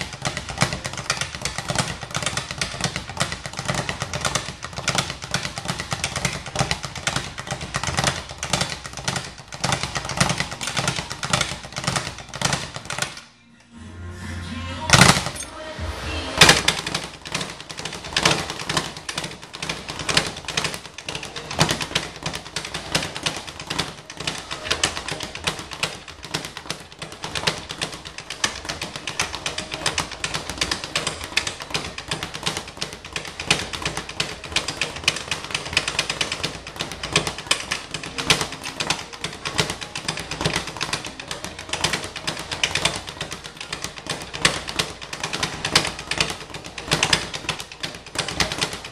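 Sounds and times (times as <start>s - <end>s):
speed bag rattling: 0.0s - 13.2s, 14.8s - 15.5s, 16.3s - 48.9s.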